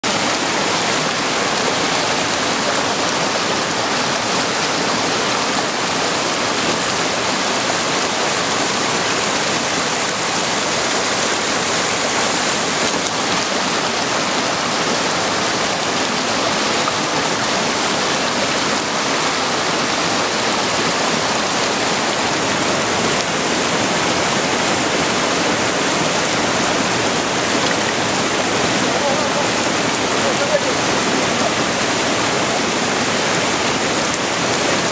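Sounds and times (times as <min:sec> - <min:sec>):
rushing mountain stream: 0:00.0 - 0:34.9.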